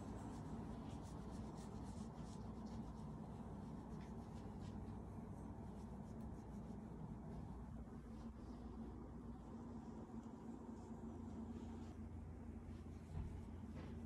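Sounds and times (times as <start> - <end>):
hand rubbing dog fur: 0.0 - 13.6
steady low hum: 0.0 - 14.0.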